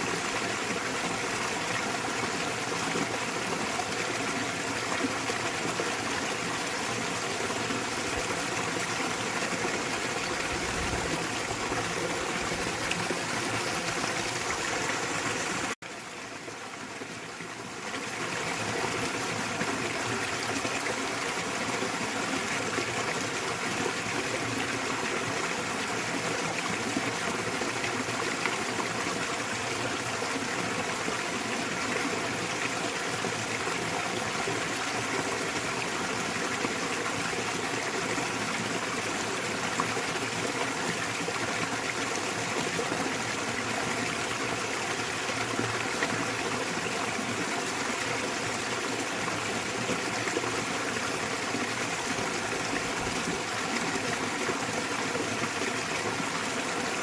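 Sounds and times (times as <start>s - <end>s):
small waterfall splashing: 0.0s - 57.0s.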